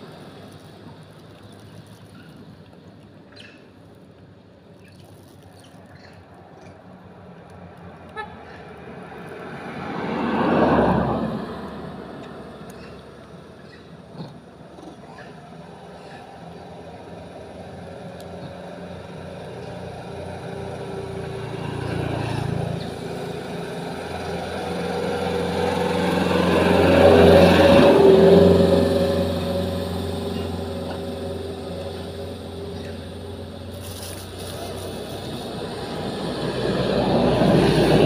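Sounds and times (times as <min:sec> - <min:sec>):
vehicle engine passing by: 0:07.5 - 0:38.0.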